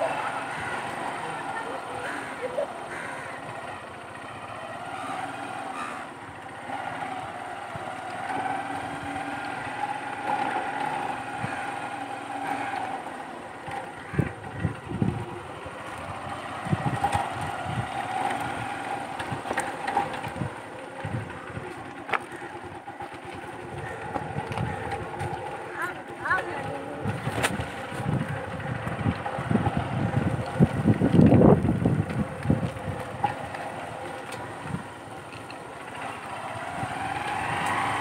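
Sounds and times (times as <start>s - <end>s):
motor drone: 0.0s - 38.0s.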